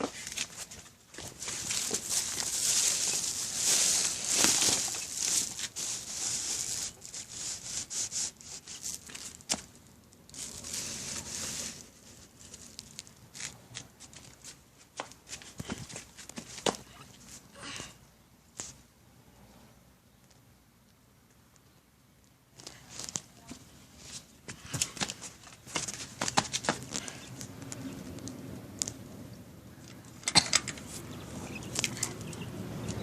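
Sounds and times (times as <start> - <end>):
rustling and crinkling: 0.0 - 17.5, 18.5 - 18.9, 22.5 - 29.0, 29.8 - 33.0.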